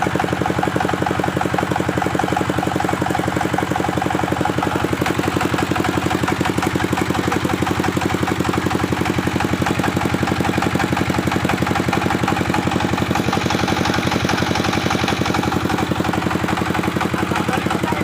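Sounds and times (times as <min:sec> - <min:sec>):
bandsaw running: 0:00.0 - 0:18.0.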